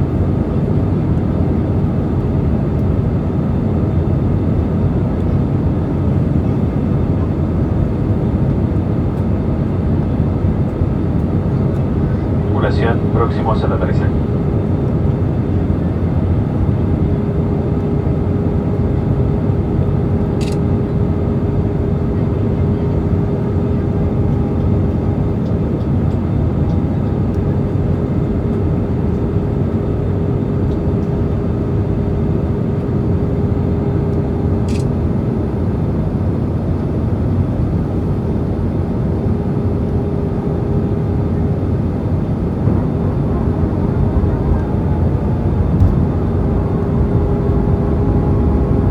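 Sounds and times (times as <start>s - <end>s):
airplane cabin airflow and engine rumble: 0.0s - 48.9s
constant hum: 0.0s - 48.9s.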